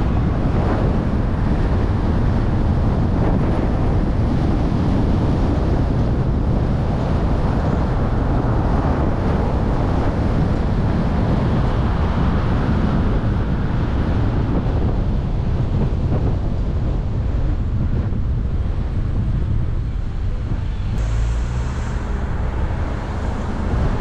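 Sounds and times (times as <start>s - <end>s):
car tyre rumble and wind rush: 0.0s - 24.0s.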